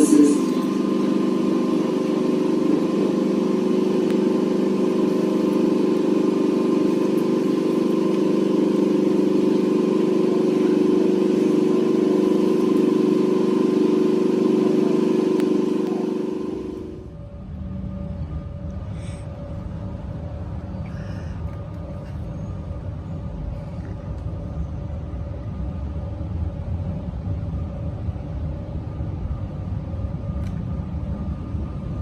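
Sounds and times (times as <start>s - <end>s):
electric train hum: 0.0s - 32.0s.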